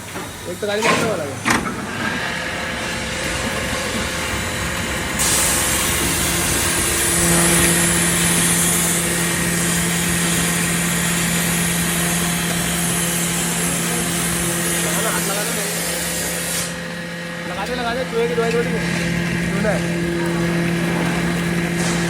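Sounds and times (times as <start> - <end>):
grinder machine running: 0.0 - 22.0.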